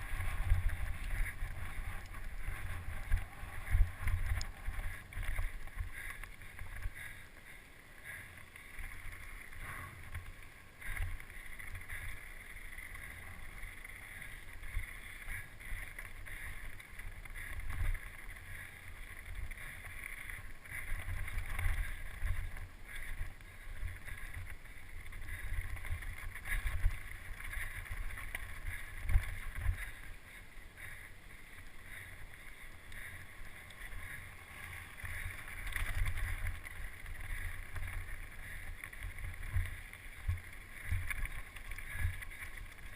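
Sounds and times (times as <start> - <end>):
bike rattling on rough ground: 0.0 - 42.9.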